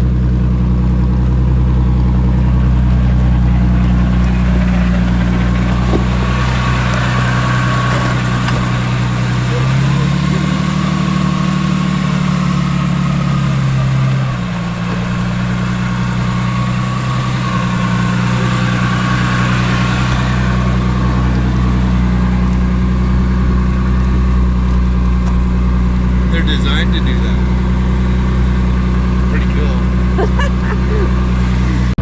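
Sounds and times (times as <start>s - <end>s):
engine running at low speed: 0.0s - 32.0s.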